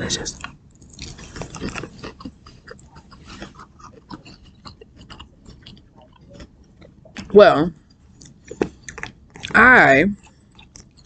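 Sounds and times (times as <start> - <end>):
person chewing crunchy food: 0.2 - 9.6, 10.2 - 11.0.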